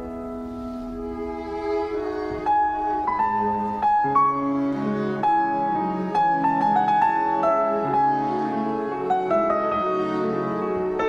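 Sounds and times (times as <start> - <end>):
slow calm instrumental music: 0.0 - 11.0.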